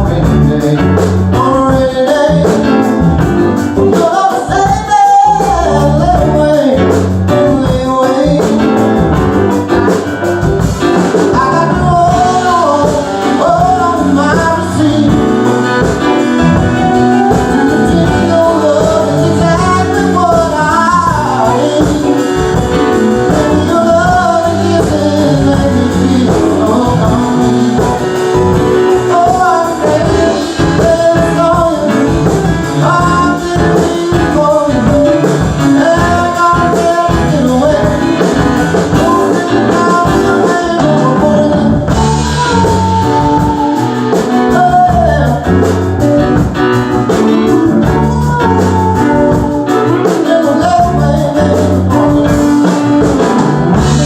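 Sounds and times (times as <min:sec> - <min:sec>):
guitar: 0:00.0 - 0:54.0
live blues-rock band playing: 0:00.0 - 0:54.0
person singing: 0:00.0 - 0:54.0.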